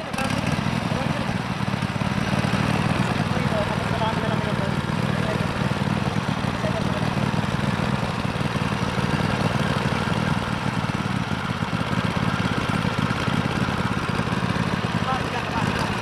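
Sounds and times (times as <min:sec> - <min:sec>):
riding mower engine idling: 0:00.0 - 0:16.0.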